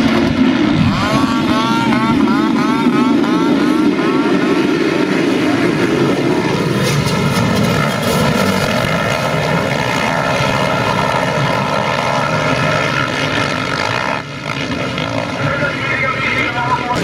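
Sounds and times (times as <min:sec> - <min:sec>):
motocross bikes racing: 0:00.0 - 0:17.0.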